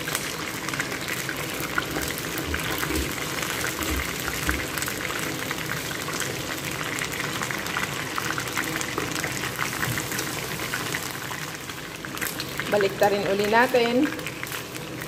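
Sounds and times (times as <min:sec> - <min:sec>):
wings sizzling in hot oil: 0:00.0 - 0:15.0.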